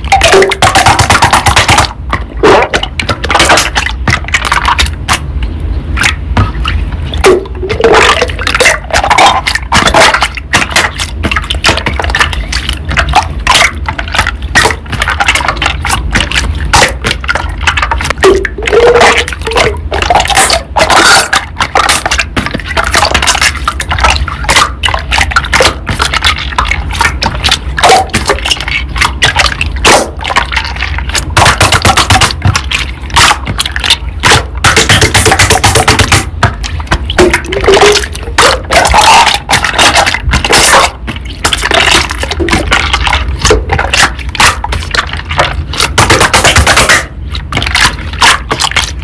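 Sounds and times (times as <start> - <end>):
slime squelching by hand: 0.0 - 49.0.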